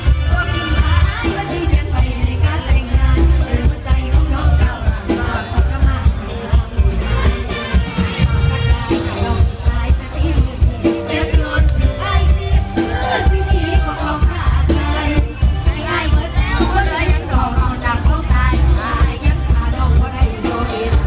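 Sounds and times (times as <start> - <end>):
heavy pulsing bass beat: 0.0 - 21.0
live band music: 0.0 - 21.0
woman singing: 0.0 - 21.0.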